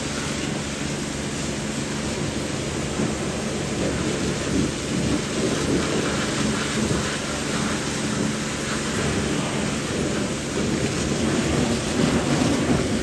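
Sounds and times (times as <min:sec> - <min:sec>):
hose water spraying and splashing: 0:00.0 - 0:13.0
low machine hum: 0:00.0 - 0:13.0.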